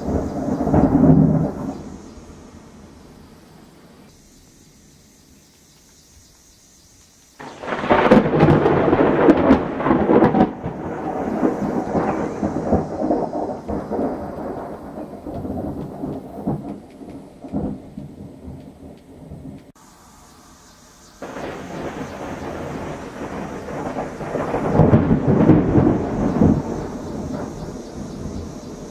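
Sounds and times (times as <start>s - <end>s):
thunder crackling and rumbling: 0.0s - 4.0s, 7.4s - 19.8s, 21.2s - 28.9s.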